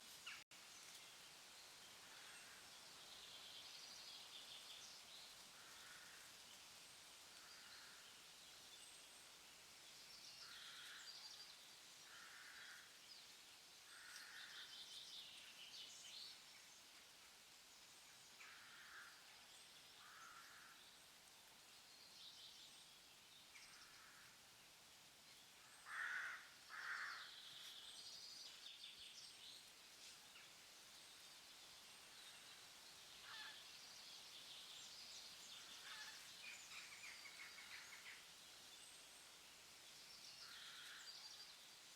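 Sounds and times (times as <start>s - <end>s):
background hiss: 0.0s - 41.9s.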